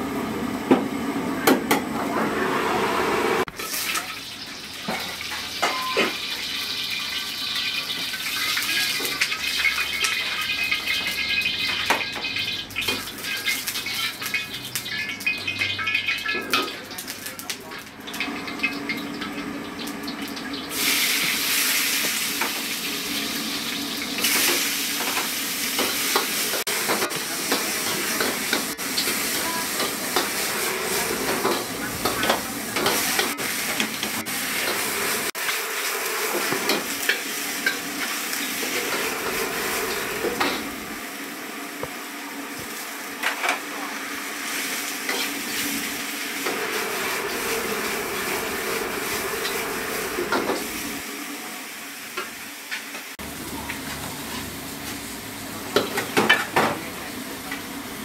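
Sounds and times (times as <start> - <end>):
food frying sizzle: 3.2 - 58.0.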